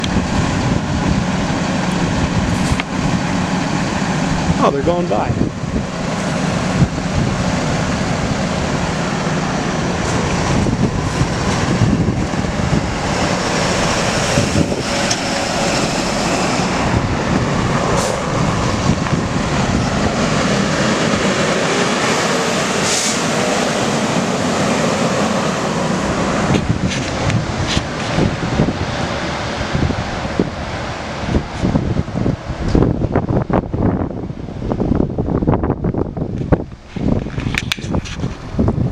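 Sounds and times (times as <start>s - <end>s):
emergency vehicles driving past: 0.0s - 34.4s
wind on microphone: 0.0s - 38.9s.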